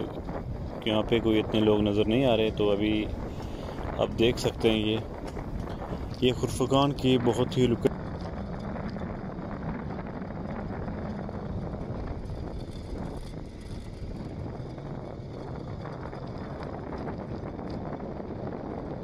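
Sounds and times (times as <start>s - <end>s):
vehicle road noise: 0.0s - 19.0s
wind rumble on microphone: 0.0s - 19.0s.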